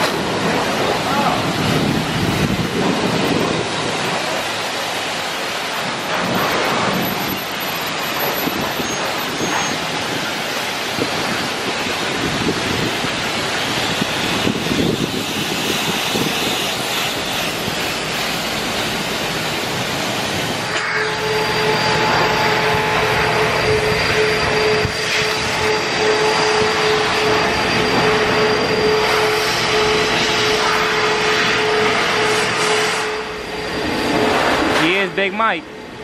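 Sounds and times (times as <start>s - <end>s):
pressure wand spraying water: 0.0s - 33.3s.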